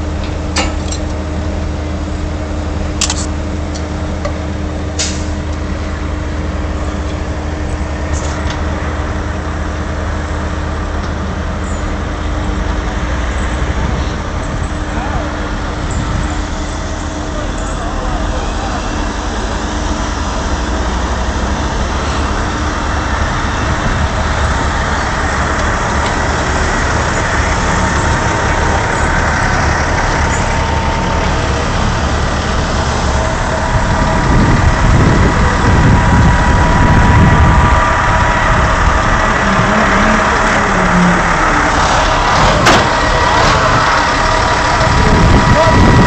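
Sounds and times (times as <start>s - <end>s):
truck diesel engines running: 0.0s - 46.0s.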